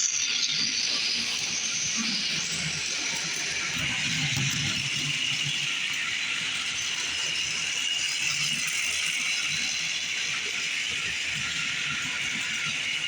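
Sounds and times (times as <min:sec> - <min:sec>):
toy train motors whirring: 0:00.0 - 0:13.0.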